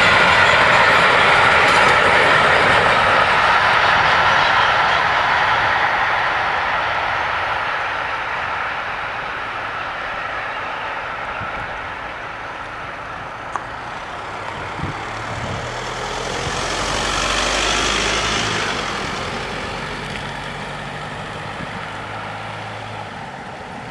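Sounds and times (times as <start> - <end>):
low engine hum: 0.0 - 23.9
pickup truck passing: 0.0 - 23.9.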